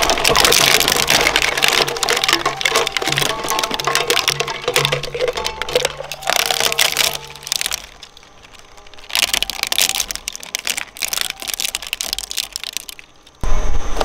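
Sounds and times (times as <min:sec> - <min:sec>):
shredder blades crunching plastic: 0:00.0 - 0:13.4.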